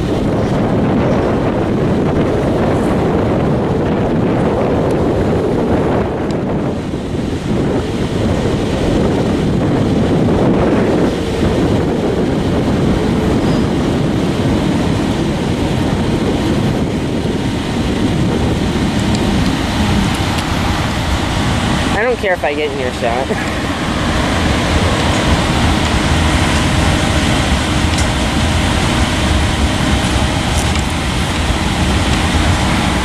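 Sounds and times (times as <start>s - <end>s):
freight train cars rumbling past: 0.0s - 33.0s
wind buffeting microphone: 0.0s - 33.0s.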